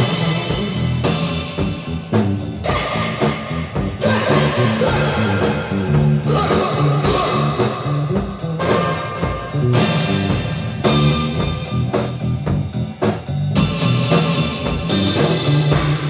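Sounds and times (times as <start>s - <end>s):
bass guitar: 0.0s - 16.0s
drum kit beat: 0.0s - 16.0s
electric guitar chords and riffs: 0.0s - 16.0s.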